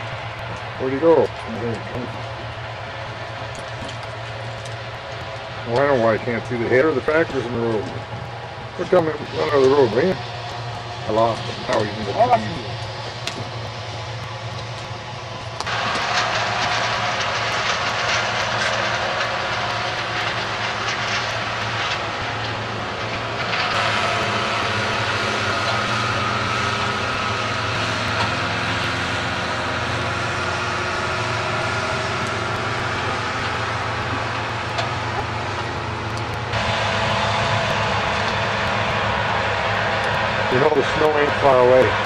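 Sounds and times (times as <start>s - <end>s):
broad rushing noise: 0.0s - 42.0s
engine running: 0.0s - 42.0s.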